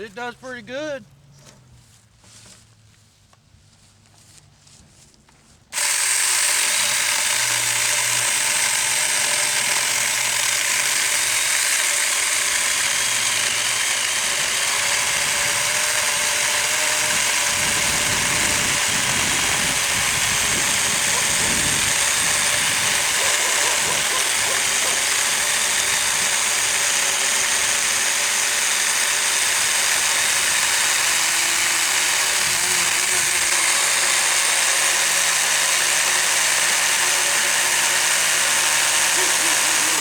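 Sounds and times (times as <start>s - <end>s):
electric chainsaw cutting log: 0.0s - 0.9s, 5.7s - 40.0s.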